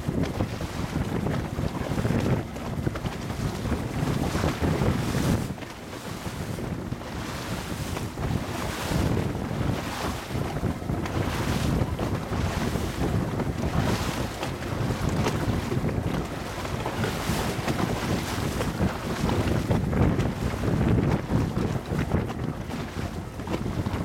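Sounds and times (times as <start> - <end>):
water splashing against boat hull: 0.0 - 24.0
wind buffeting microphone: 0.0 - 24.0.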